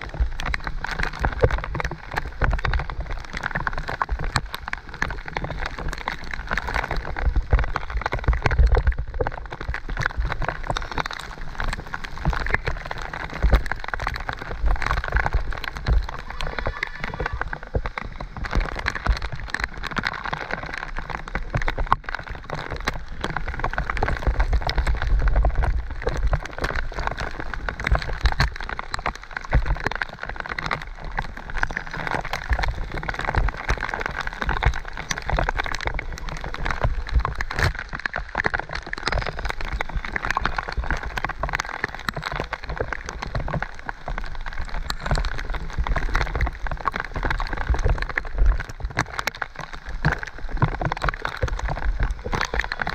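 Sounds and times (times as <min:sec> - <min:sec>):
heavy rain spattering: 0:00.0 - 0:52.9
mountain bike on muddy trail: 0:00.0 - 0:52.9.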